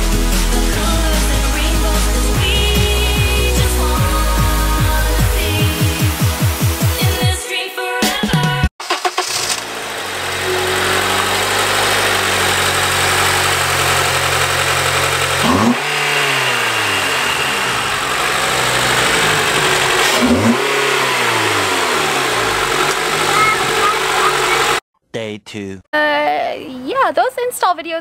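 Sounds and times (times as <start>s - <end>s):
car engine idling and revving: 0.0s - 6.8s, 8.8s - 24.8s.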